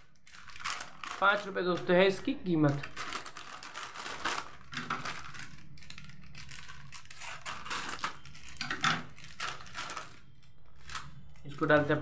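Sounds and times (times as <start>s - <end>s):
plastic packet crinkling: 0.0s - 12.0s.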